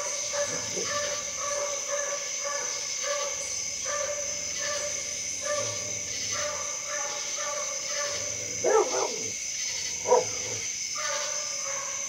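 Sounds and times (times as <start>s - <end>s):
insects chirring: 0.0s - 12.0s
hound baying: 0.3s - 12.0s.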